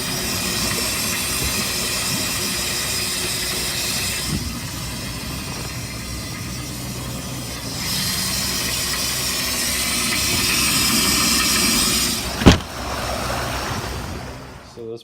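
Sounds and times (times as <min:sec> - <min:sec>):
constant hiss: 0:00.0 - 0:14.9
boat engine idling: 0:00.0 - 0:15.0.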